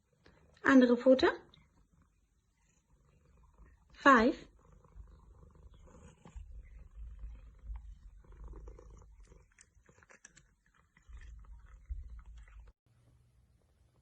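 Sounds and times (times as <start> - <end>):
cat purring: 1.3 - 12.8.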